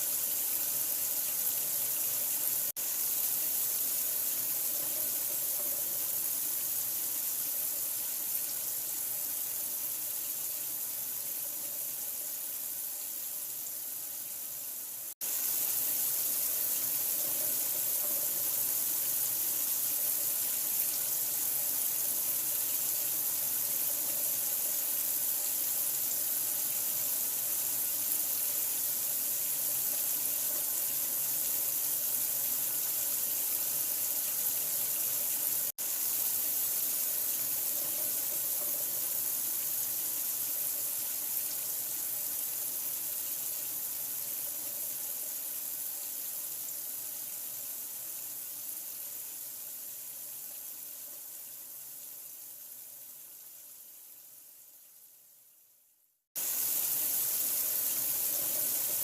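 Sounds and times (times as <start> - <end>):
running water: 0.0 - 53.9, 56.4 - 59.0.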